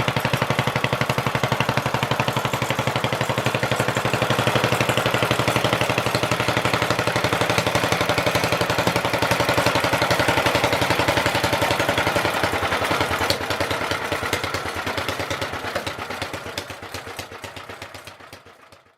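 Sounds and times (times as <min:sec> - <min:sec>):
stationary engine running: 0:00.0 - 0:18.9.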